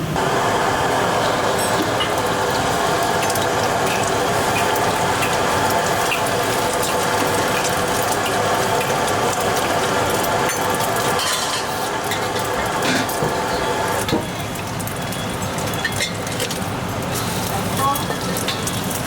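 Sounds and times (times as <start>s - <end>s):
kitchen equipment whirring: 0.0s - 19.0s.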